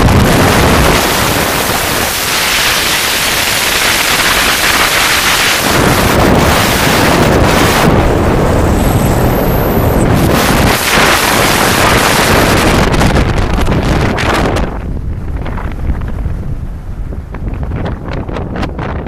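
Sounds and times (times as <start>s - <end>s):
airflow rushing past microphone: 0.0s - 19.0s.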